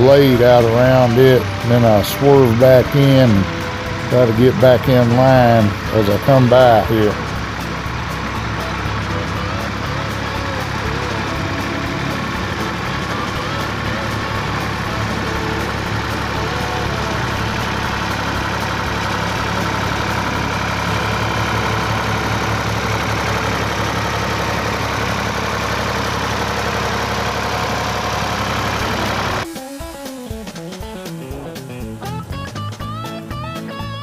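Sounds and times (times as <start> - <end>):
tractor engine passing: 0.0 - 34.0.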